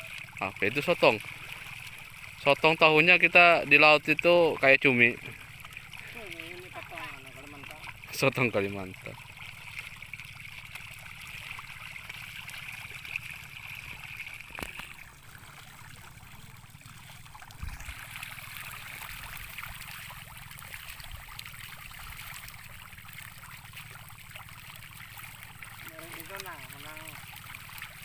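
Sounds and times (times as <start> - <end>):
fish splashing at water surface: 0.0 - 28.0.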